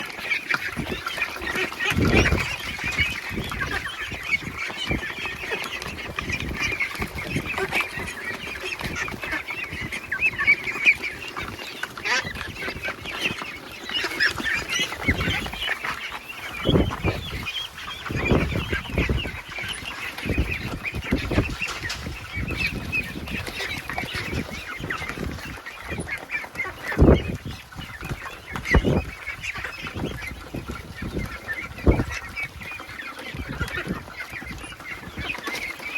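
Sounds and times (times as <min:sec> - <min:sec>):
ducks calling: 0:00.0 - 0:35.9.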